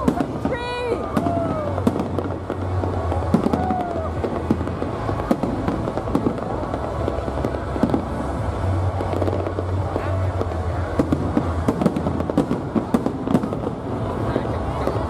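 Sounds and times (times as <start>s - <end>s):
crowd voices: 0.0s - 15.0s
fireworks bangs and crackling: 0.0s - 15.0s.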